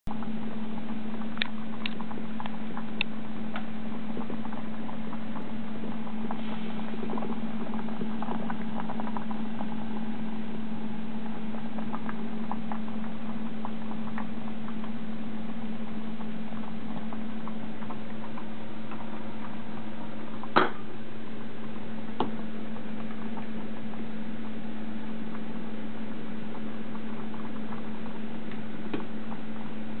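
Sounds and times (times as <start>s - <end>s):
low hum: 0.1s - 30.0s
pot boiling and bubbling: 0.1s - 30.0s.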